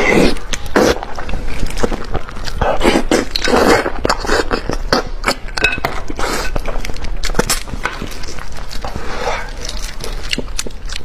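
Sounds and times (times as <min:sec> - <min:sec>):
wet chewing and slurping: 0:00.0 - 0:11.0.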